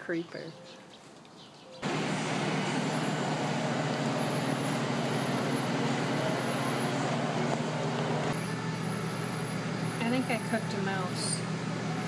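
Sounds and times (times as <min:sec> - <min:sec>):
kitchen machinery droning: 0:01.8 - 0:12.0.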